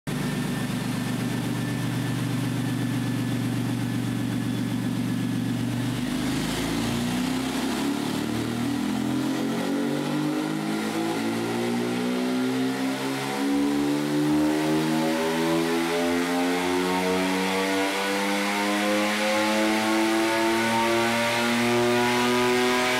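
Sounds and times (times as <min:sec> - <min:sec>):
car engine revving under load: 0:03.3 - 0:22.9.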